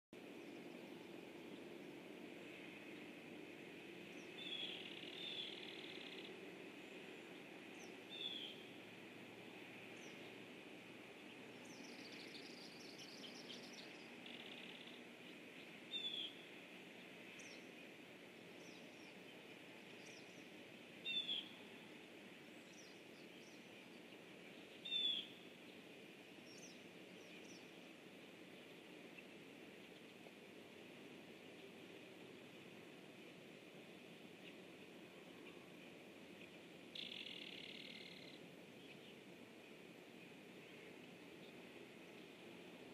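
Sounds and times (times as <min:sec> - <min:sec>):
steady background hiss: 0:00.2 - 0:42.9.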